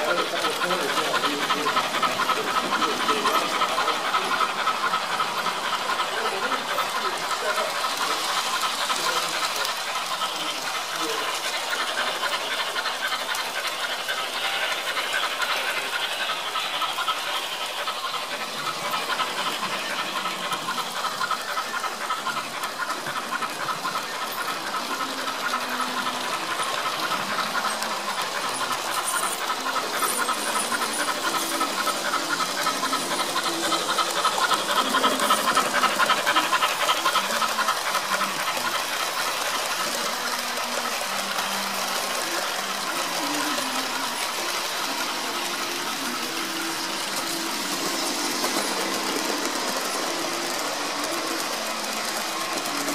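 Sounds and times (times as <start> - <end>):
model train steam chuffing: 0.0 - 52.9.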